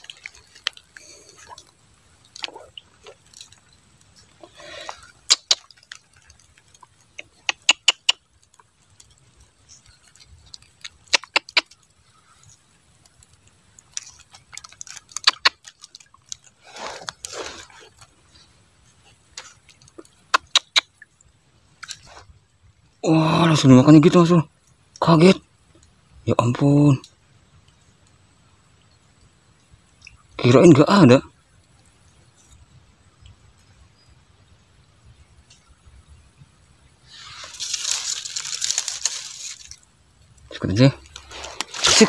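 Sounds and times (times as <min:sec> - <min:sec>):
water drips and plips: 0:00.0 - 0:26.2, 0:26.8 - 0:42.0.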